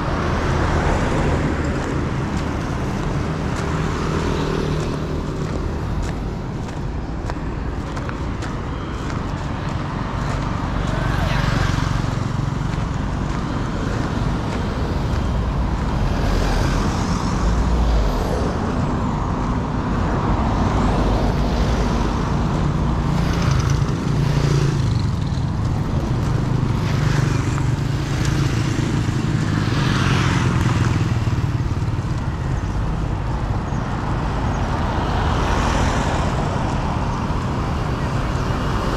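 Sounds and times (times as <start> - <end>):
road noise: 0.0 - 38.9
traffic passing: 0.0 - 38.9.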